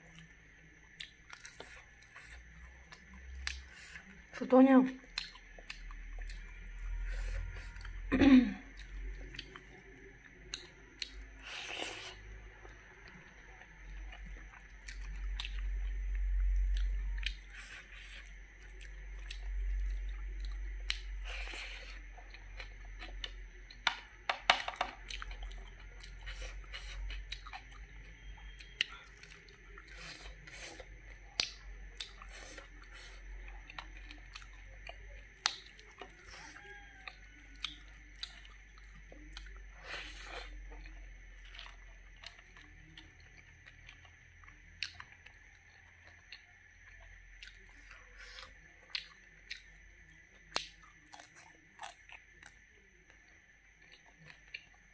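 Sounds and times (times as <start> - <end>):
person chewing food: 0.0 - 4.3, 5.0 - 54.9.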